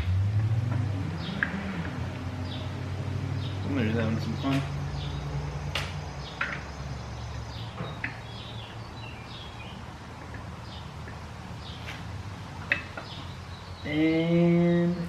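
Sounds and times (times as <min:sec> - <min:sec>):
birds chirping: 0:00.7 - 0:15.0.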